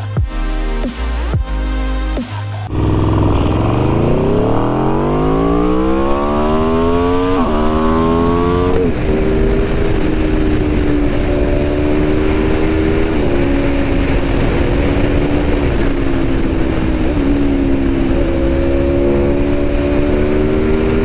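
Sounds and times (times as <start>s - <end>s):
motorcycle engine revving: 2.7s - 21.0s
wind noise over microphone: 2.7s - 21.0s.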